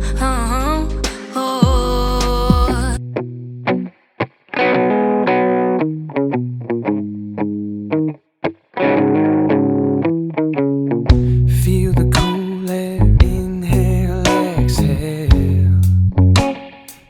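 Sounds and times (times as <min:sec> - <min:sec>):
electric guitar plucked notes: 0:00.0 - 0:03.9, 0:04.5 - 0:08.2, 0:08.8 - 0:17.0.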